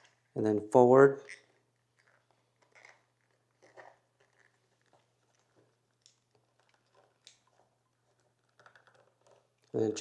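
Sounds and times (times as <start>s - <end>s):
plastic wire harness clicks and rustles: 1.2s - 9.8s.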